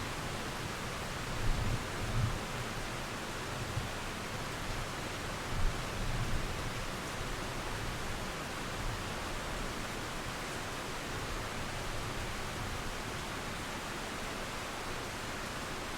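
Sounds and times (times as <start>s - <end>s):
steady rain: 0.0s - 15.9s.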